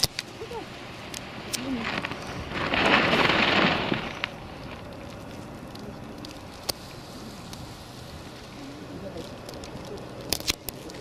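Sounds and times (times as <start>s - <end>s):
low steady hiss: 0.0s - 11.0s
propane burner blasting: 0.0s - 11.0s.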